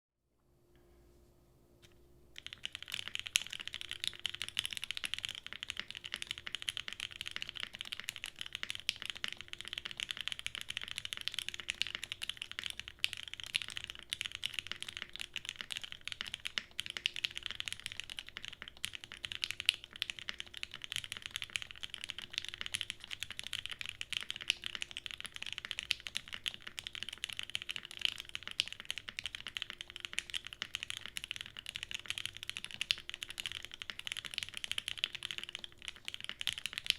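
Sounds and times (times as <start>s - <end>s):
fast mechanical keyboard typing: 2.4s - 36.9s.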